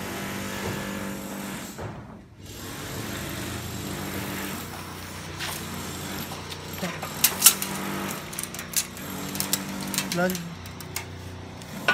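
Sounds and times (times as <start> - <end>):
workshop machinery humming: 0.0 - 11.9.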